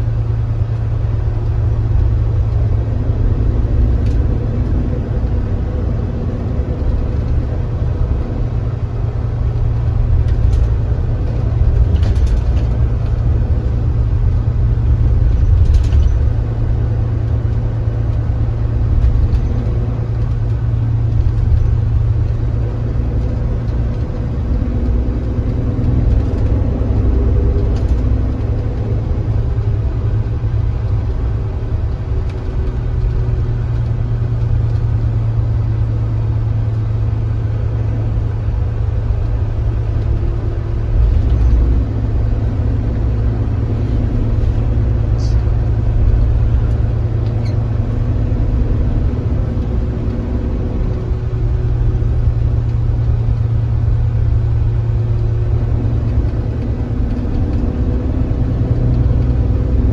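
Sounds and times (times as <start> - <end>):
coach engine and road rumble: 0.0 - 59.9.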